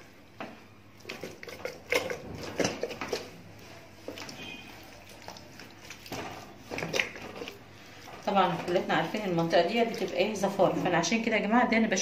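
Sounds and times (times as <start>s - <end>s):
wet squishing and rubbing: 0.9s - 11.2s.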